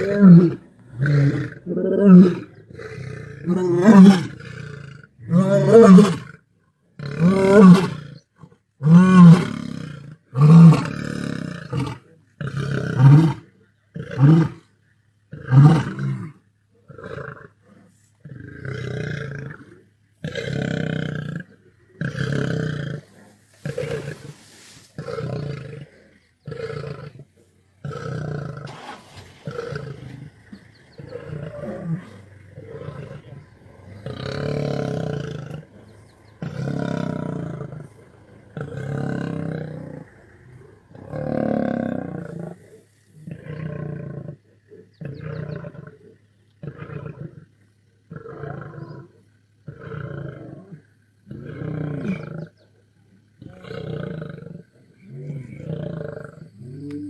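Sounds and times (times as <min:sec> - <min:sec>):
lion roaring: 0:00.0 - 0:06.4, 0:07.0 - 0:14.7, 0:15.3 - 0:52.6, 0:53.4 - 0:57.0.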